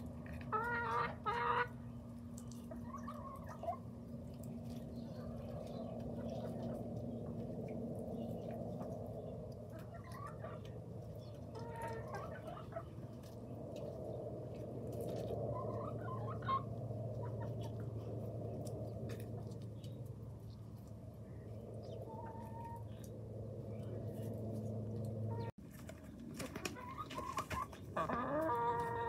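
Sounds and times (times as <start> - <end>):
hens clucking: 0.0 - 7.6, 8.3 - 20.0, 21.6 - 23.2, 24.0 - 29.0
steady low hum: 0.0 - 26.4.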